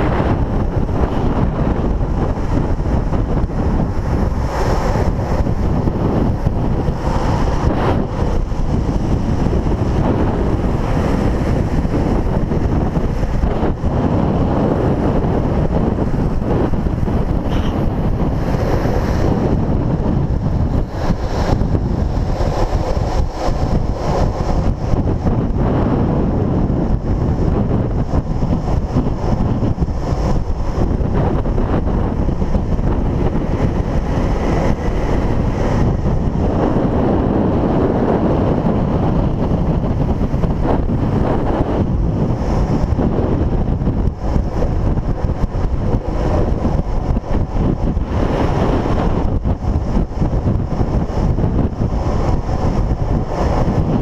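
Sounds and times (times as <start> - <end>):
longboard wheels rolling on asphalt: 0.0 - 54.0
wind rushing over microphone: 0.0 - 54.0.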